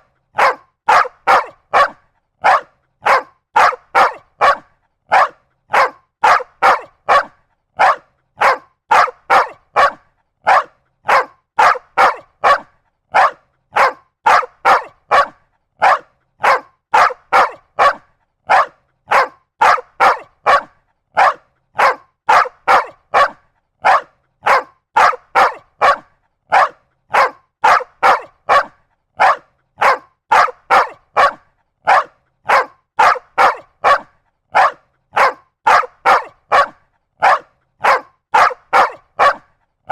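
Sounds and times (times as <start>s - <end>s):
large dog barking: 0.3s - 39.9s.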